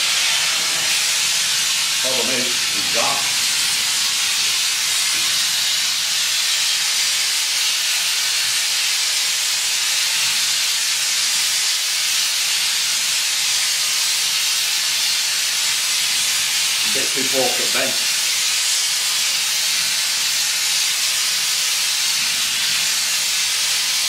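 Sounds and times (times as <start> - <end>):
gas torch hissing: 0.0 - 24.0.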